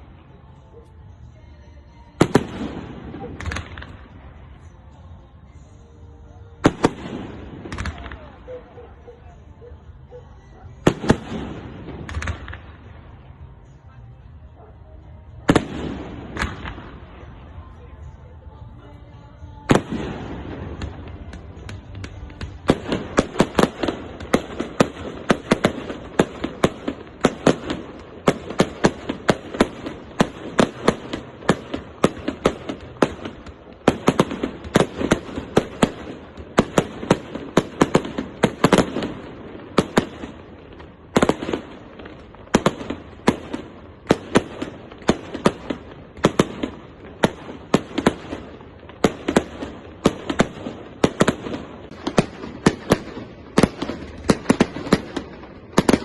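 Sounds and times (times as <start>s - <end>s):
fireworks bangs: 2.2s - 5.6s, 6.6s - 8.7s, 10.8s - 13.7s, 15.3s - 17.5s, 19.5s - 56.0s.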